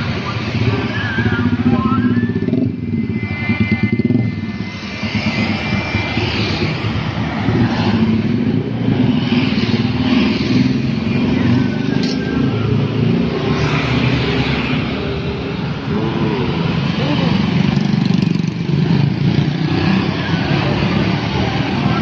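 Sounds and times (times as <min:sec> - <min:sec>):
motorcycles and scooters passing: 0:00.0 - 0:22.0.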